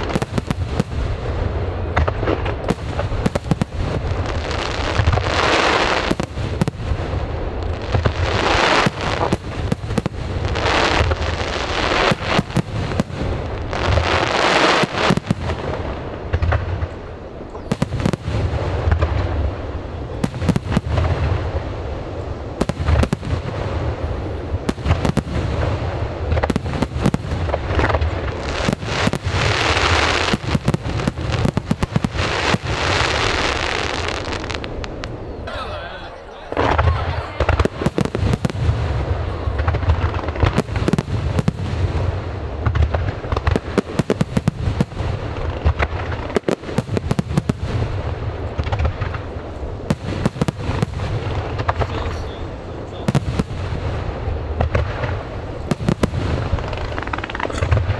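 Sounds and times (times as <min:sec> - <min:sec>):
crackling hiss of fireworks: 0:00.0 - 0:57.9
fireworks cracks and bangs: 0:00.0 - 0:57.9.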